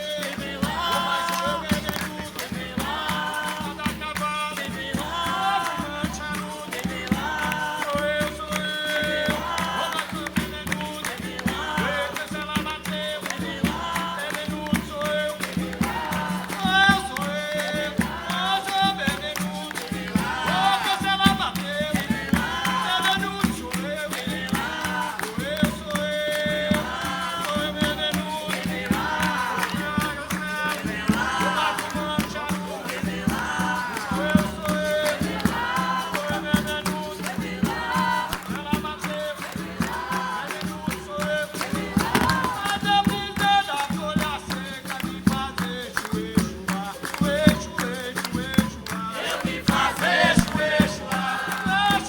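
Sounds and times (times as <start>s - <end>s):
group singing: 0.0s - 52.0s
hand percussion: 0.0s - 52.0s.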